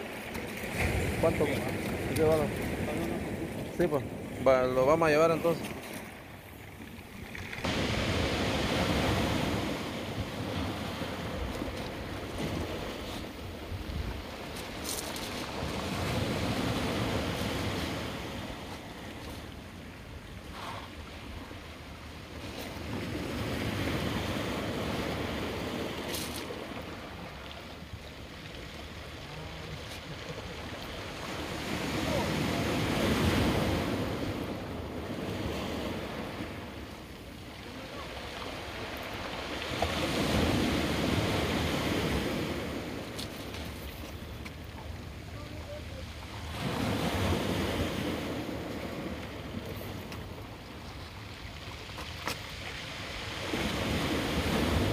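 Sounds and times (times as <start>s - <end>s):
ocean surf on rocks: 0.0s - 54.9s.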